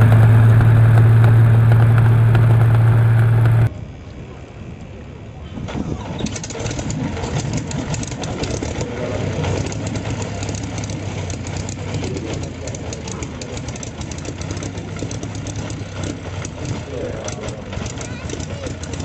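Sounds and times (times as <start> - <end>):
aero engine running: 0.0 - 19.0.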